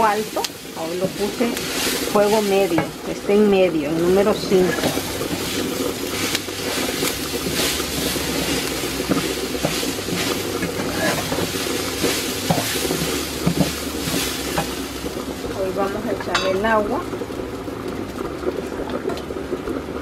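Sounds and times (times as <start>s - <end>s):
wooden spoon stirring and scraping: 0.0s - 16.8s
rice and vegetables sizzling: 0.0s - 20.0s.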